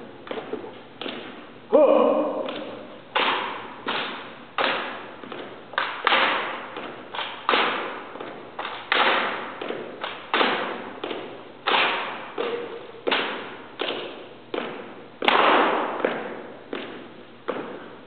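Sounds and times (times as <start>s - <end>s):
hands smacking rifles echoing: 0.0s - 18.0s.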